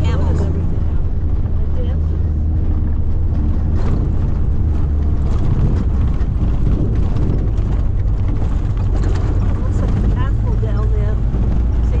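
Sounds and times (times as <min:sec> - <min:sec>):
knocks and rattles over rough ground: 0:00.0 - 0:12.0
vehicle engine and tyres rumbling: 0:00.0 - 0:12.0.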